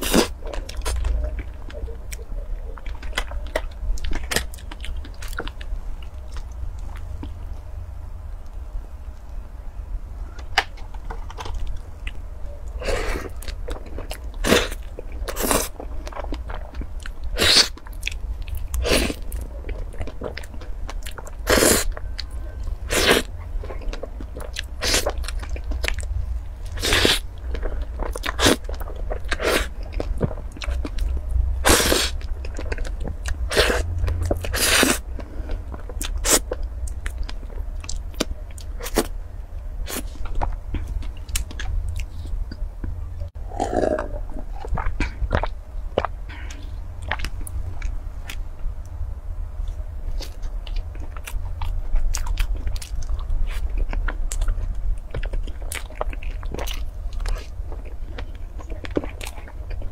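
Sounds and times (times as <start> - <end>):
cake being chewed: 10.3 - 39.1, 39.8 - 48.7, 49.6 - 59.9.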